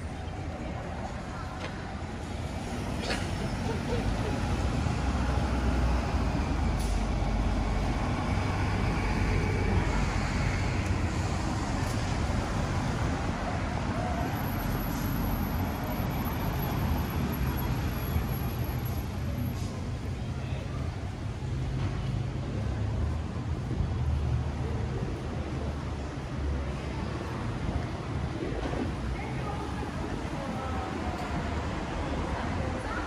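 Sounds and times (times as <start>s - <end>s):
heavy vehicle engine rumble: 0.0s - 33.0s.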